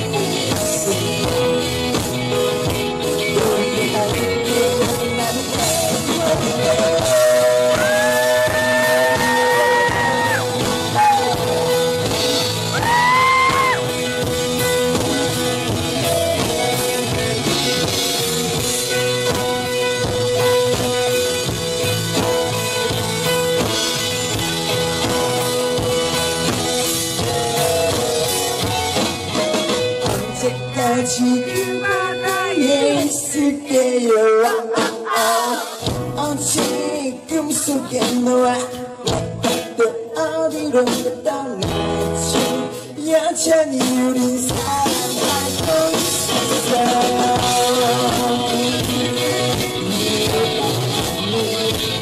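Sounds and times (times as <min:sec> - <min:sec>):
man singing: 0:00.0 - 0:24.0, 0:29.6 - 0:52.0
rock band playing live: 0:00.0 - 0:52.0.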